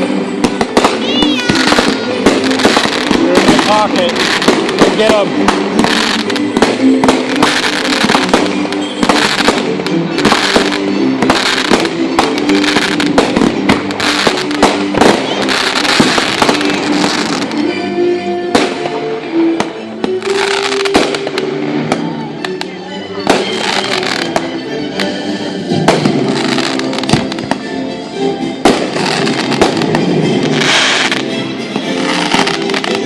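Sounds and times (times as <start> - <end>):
fireworks bangs and crackling: 0.0 - 17.6, 18.5 - 27.7, 28.6 - 33.0
music playing: 0.0 - 33.0.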